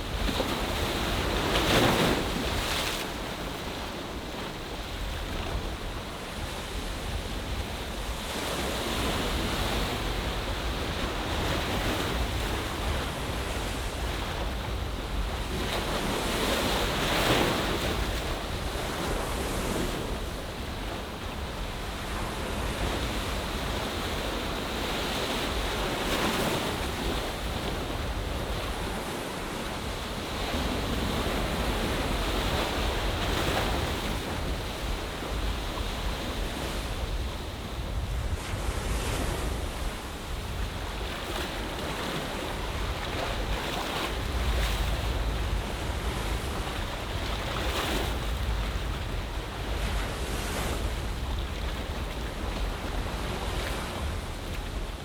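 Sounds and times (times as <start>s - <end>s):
low wind rumble on microphone: 0.0s - 55.0s
sea waves washing into a bay: 0.0s - 55.0s.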